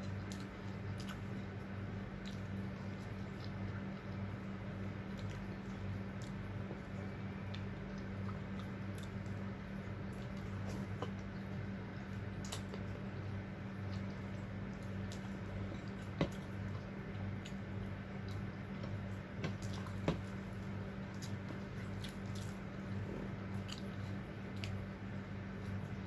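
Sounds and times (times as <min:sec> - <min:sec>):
chewing and wet mouth sounds: 0:00.0 - 0:26.0
steady low hum: 0:00.0 - 0:26.0.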